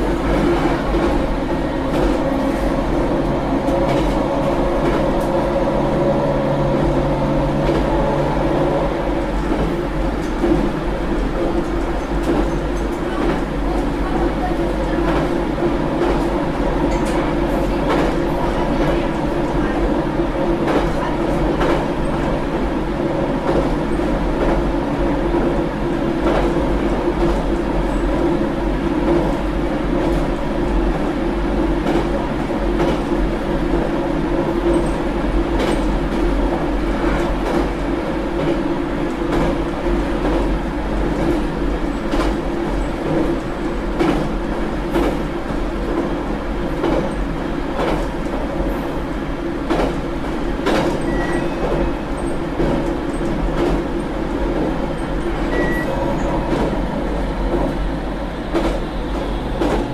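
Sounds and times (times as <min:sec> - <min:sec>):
train motor hum: 0:00.0 - 0:59.9
train wheels rumbling: 0:00.0 - 0:59.9.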